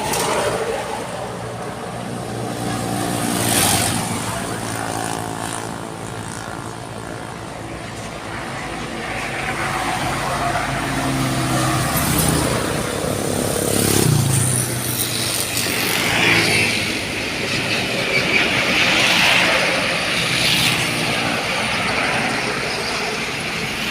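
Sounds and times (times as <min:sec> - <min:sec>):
rushing traffic noise: 0:00.0 - 0:23.9.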